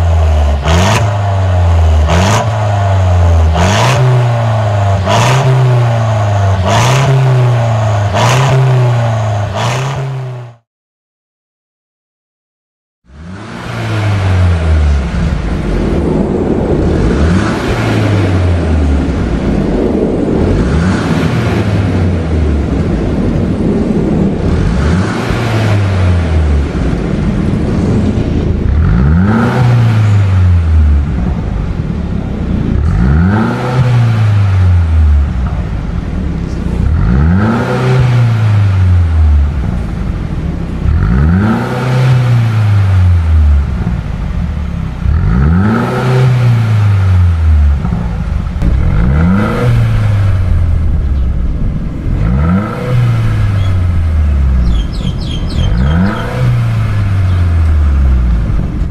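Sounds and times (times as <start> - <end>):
car engine revving: 0.0 - 10.7, 13.0 - 58.9.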